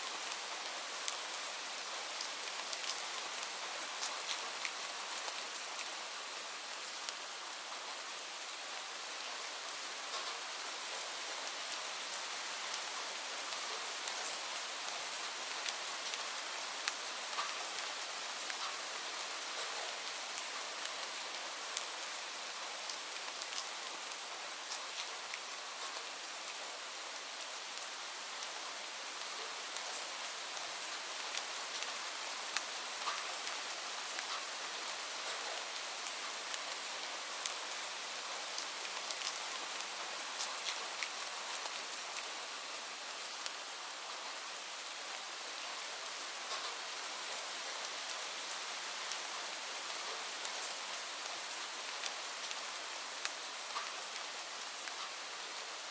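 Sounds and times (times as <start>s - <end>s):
rain falling on leaves: 0.0s - 55.9s.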